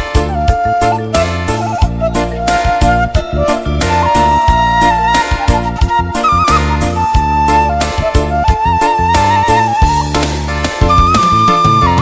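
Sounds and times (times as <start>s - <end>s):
bass line: 0.0s - 12.0s
lead melody with vibrato: 0.0s - 12.0s.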